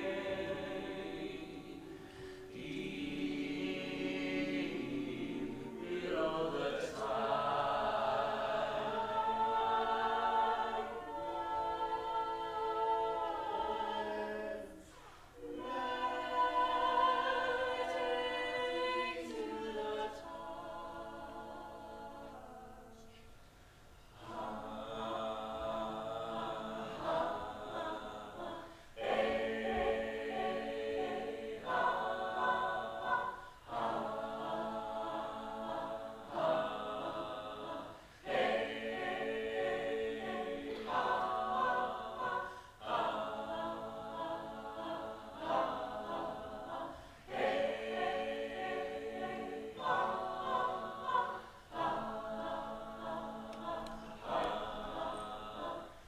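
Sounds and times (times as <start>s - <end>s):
voices singing in harmony: 0.0s - 56.0s.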